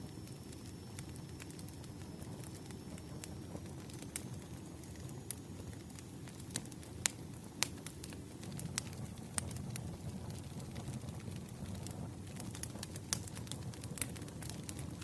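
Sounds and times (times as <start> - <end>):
campfire crackling: 0.0 - 15.0
low rumble of burning fire: 0.0 - 15.0
sharp pops of fire: 0.3 - 15.0.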